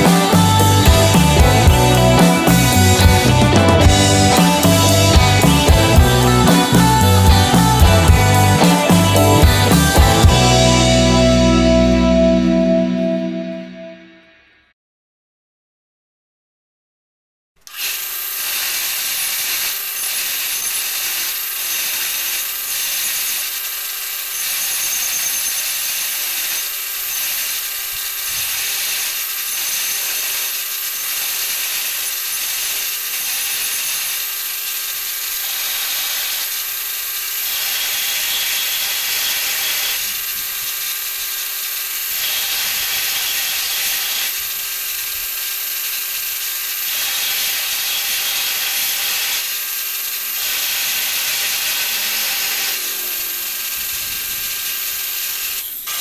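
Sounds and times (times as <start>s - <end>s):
belt grinder grinding metal: 0.0s - 11.6s, 17.6s - 56.0s.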